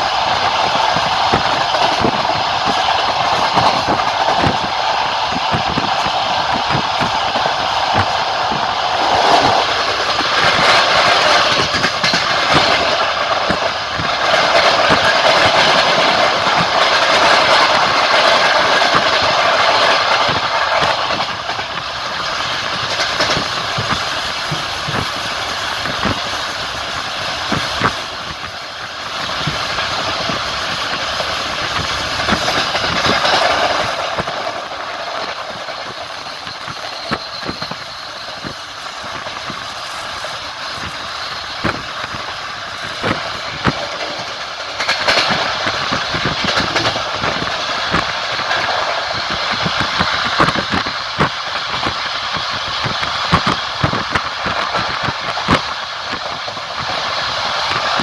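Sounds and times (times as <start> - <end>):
rushing rail noise: 0.0 - 58.0
train wheels clicking over rail joints: 0.0 - 58.0.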